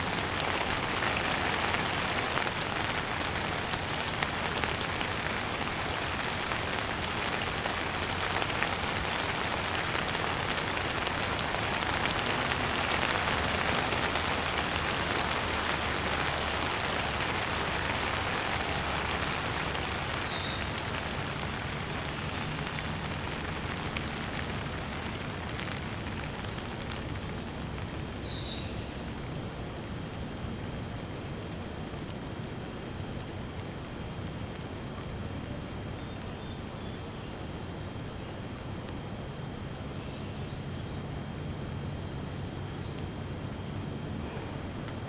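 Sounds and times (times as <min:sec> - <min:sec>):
steady rain pattering: 0:00.0 - 0:45.0.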